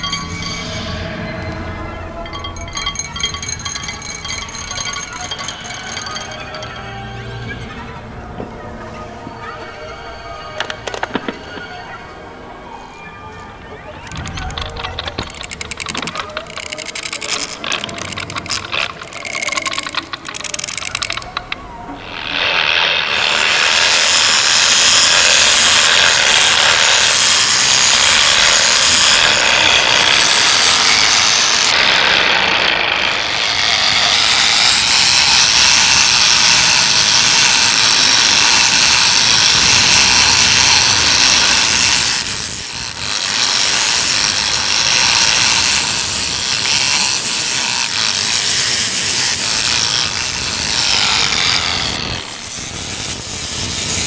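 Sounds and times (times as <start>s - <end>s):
harsh scratchy noise texture: 0.0s - 54.0s
scratching and tapping: 2.5s - 11.8s, 14.0s - 54.0s.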